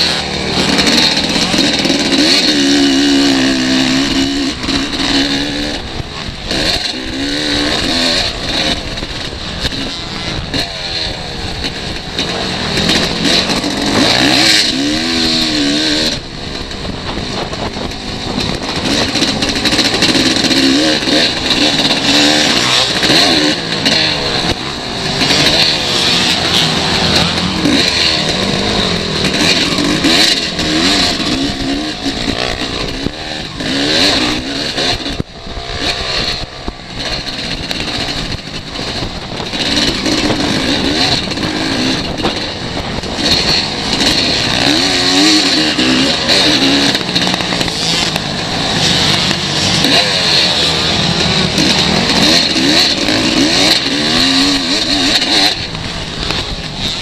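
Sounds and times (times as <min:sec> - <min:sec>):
motocross bike engine revving: 0:00.0 - 0:57.0
wind rushing over microphone: 0:00.3 - 0:57.0.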